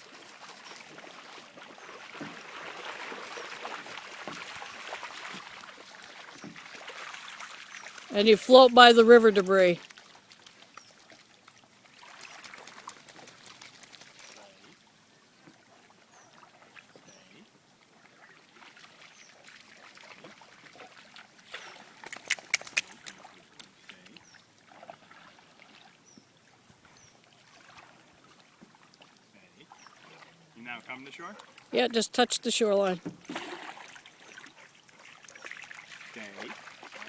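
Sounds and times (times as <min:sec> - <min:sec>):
canoe moving through water: 0:00.0 - 0:37.0.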